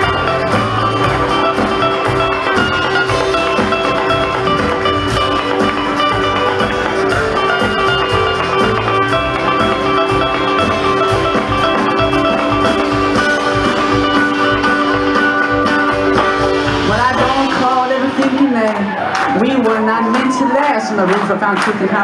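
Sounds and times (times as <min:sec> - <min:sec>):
acoustic string band playing: 0:00.0 - 0:19.4.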